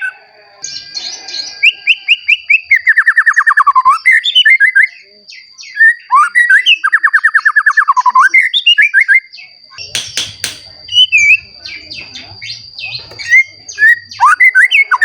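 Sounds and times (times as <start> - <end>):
songbird whistling trills: 0.0 - 15.0.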